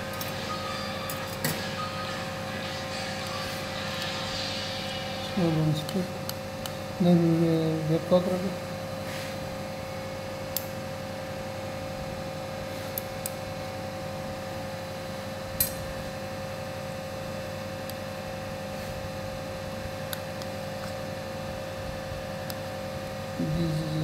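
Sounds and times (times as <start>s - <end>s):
electrical equipment hum: 0.0s - 24.0s.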